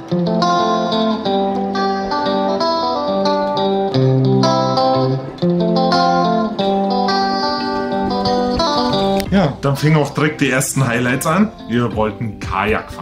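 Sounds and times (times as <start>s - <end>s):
plucked guitar with steady beat: 0.0s - 13.0s.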